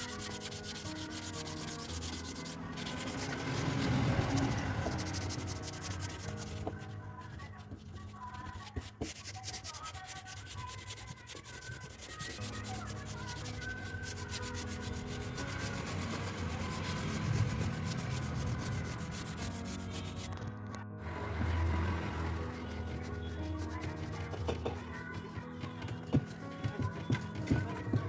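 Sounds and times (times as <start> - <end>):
cloth scrubbing metal door: 0.0 - 20.4, 21.0 - 28.0
quiet background music: 0.0 - 28.0.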